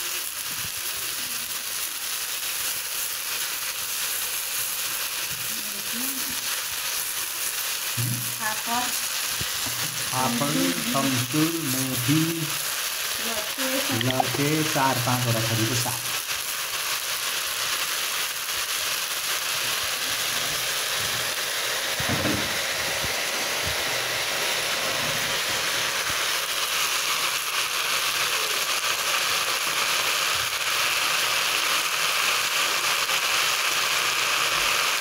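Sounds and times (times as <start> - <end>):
greens sizzling in hot oil: 0.0 - 35.0.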